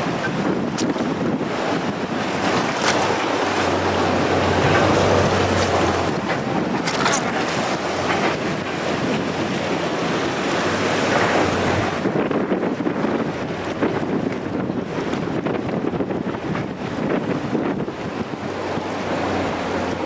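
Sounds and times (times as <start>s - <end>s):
surf breaking on shore: 0.0s - 20.0s
wind buffeting microphone: 0.0s - 20.0s.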